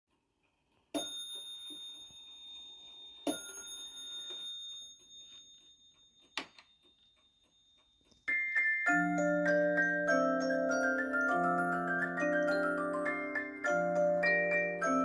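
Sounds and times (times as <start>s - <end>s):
clock striking a bell: 1.0s - 6.4s, 8.3s - 15.0s.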